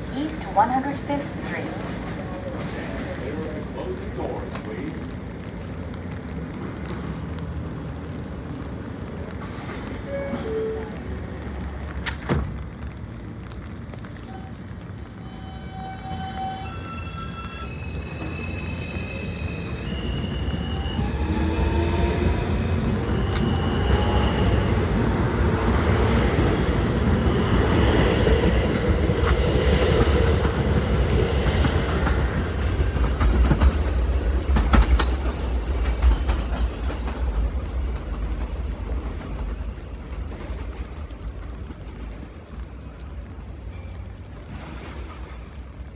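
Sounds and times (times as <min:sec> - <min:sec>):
wheels clacking on rails: 0:00.0 - 0:43.7
train rumble: 0:00.0 - 0:45.9.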